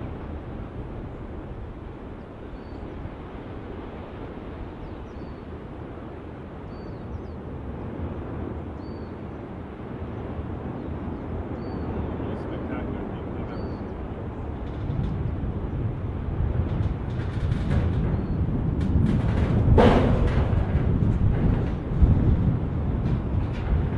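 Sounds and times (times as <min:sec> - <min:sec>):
lava vent rumbling: 0:00.0 - 0:23.9.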